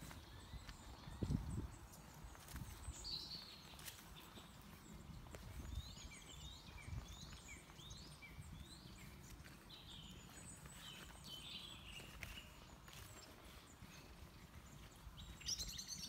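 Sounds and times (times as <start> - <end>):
footsteps on muddy track: 0.0 - 16.0.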